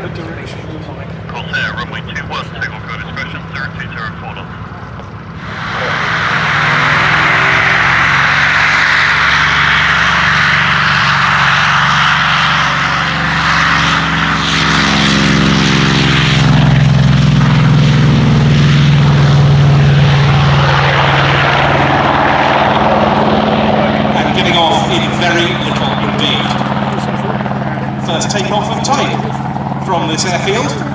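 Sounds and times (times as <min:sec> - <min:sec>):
propeller plane taking off: 0:00.0 - 0:30.9.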